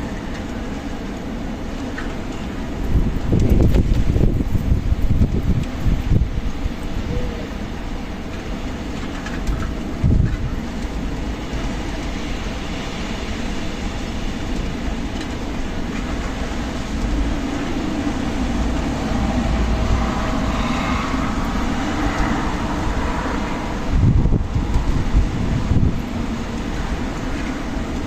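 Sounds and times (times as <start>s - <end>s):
strong wind blowing: 0.0s - 28.0s
wind buffeting microphone: 0.0s - 28.0s.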